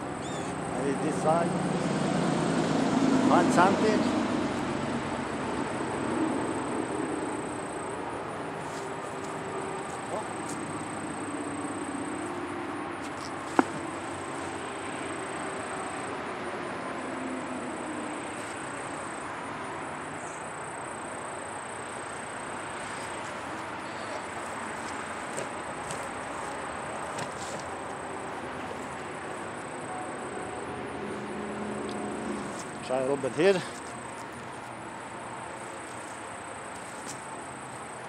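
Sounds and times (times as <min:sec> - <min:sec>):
distant traffic hum: 0:00.0 - 0:38.0
insects trilling: 0:00.0 - 0:38.0.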